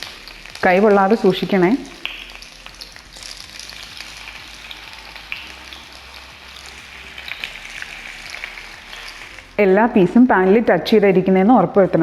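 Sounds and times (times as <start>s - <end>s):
oil popping and crackling: 0.0s - 10.0s
chicken sizzling in oil: 0.0s - 10.2s.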